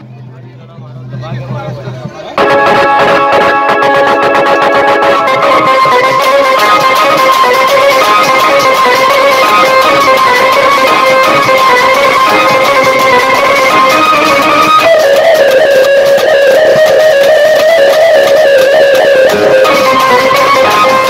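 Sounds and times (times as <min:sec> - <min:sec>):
drums beating a fast rhythm: 0:00.0 - 0:21.0
held wavering melody: 0:02.4 - 0:21.0.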